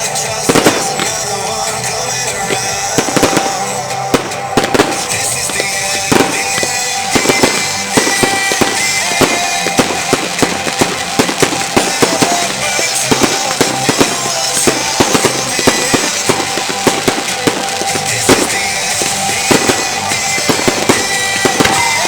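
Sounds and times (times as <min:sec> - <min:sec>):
fireworks banging and crackling: 0:00.0 - 0:22.0
music playing: 0:00.0 - 0:22.0.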